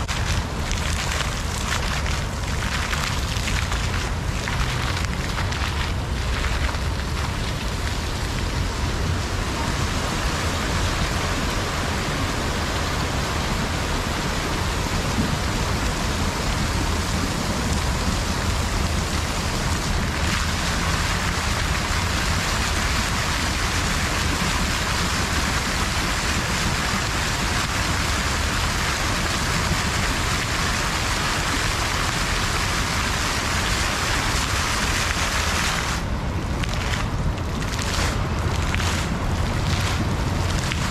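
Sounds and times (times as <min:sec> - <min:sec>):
water falling and splashing: 0:00.0 - 0:40.9.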